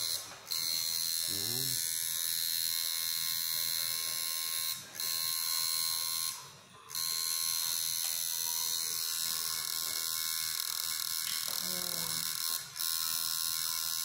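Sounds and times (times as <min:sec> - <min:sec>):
tattoo machine buzzing: 0:00.0 - 0:14.0.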